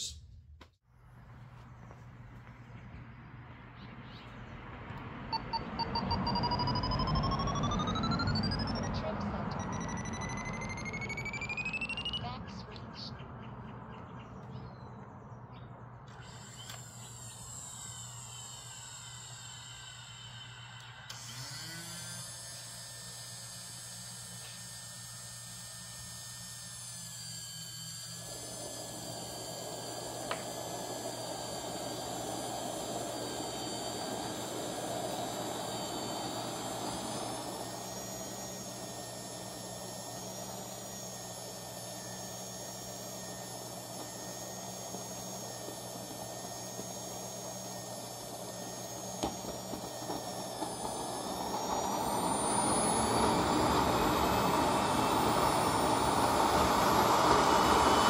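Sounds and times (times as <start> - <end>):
jet turbine whine: 1.4 - 58.0.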